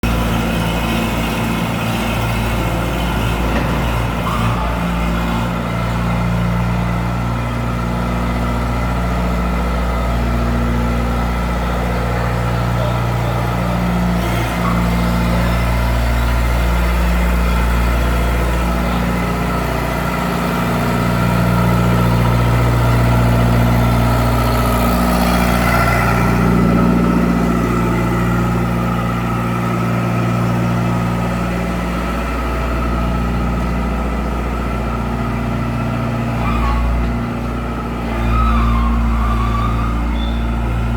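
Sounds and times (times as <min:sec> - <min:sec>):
heavy machinery engine running: 0:00.0 - 0:40.9.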